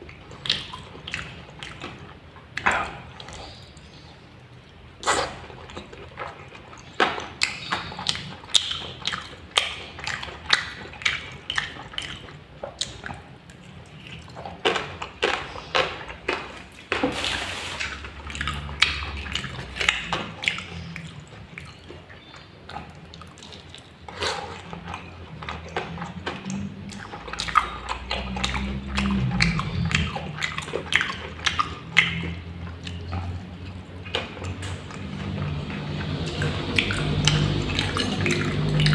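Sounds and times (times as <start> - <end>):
wet chewing and mouth smacks: 0.0 - 38.9.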